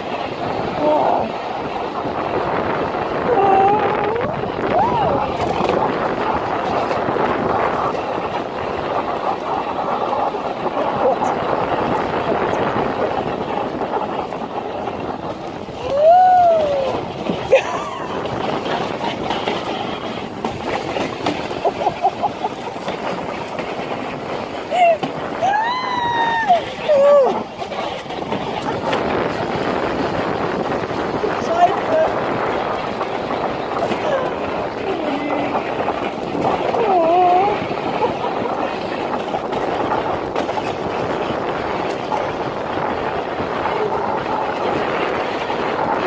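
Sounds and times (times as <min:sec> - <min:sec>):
toboggan scraping over asphalt: 0:00.0 - 0:46.0.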